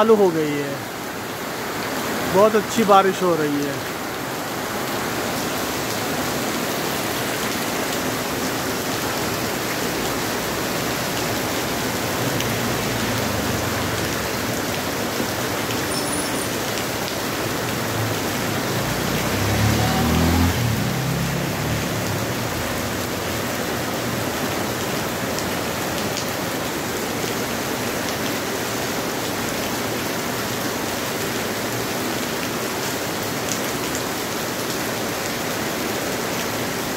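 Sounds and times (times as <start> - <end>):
heavy rain on street: 0.0 - 36.9.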